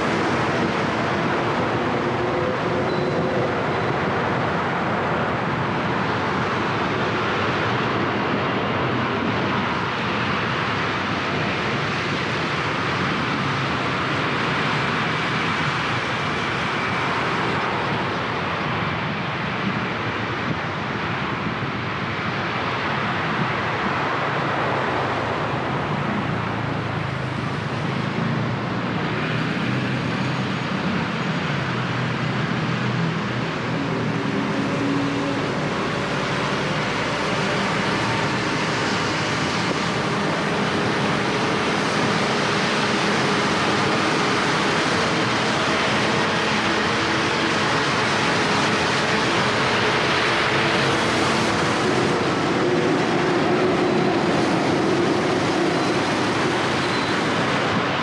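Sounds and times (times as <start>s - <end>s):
car engines: 0.0s - 58.0s.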